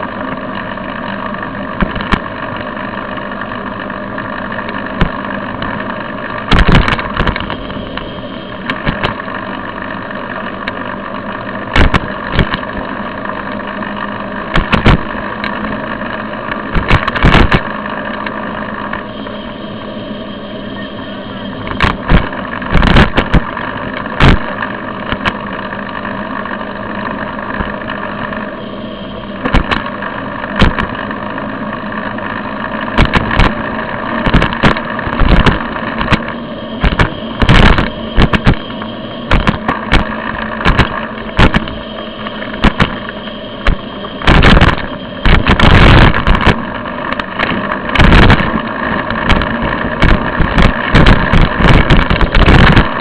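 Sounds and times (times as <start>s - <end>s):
road noise hum: 0.0s - 53.0s.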